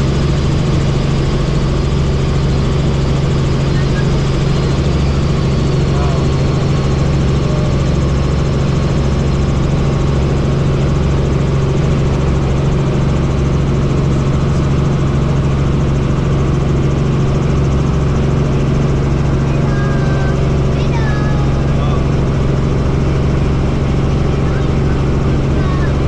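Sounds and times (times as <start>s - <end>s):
helicopter engine and rotors droning: 0.0s - 26.0s.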